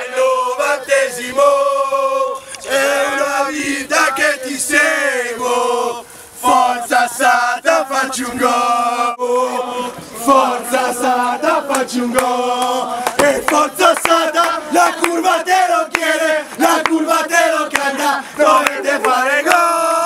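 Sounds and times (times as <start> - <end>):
football supporters chanting: 0.0 - 20.0.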